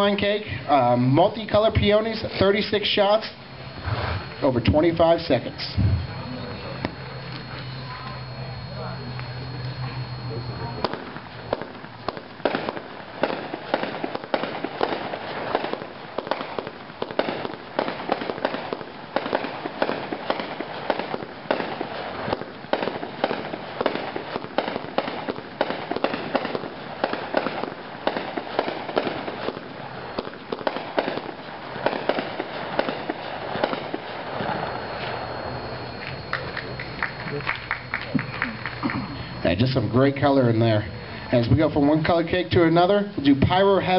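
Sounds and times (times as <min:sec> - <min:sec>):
fireworks shots launching and bursting: 0:00.0 - 0:07.6, 0:10.1 - 0:38.0.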